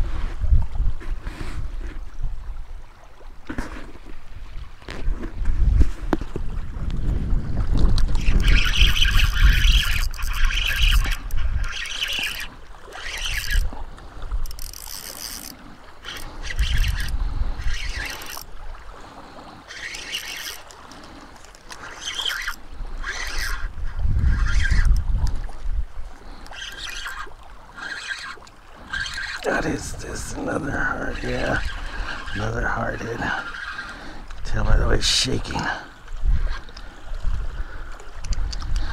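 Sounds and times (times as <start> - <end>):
wind buffeting microphone: 0.0 - 2.8, 4.2 - 18.8, 22.6 - 27.6, 28.9 - 38.9
small waves washing ashore: 1.0 - 38.9.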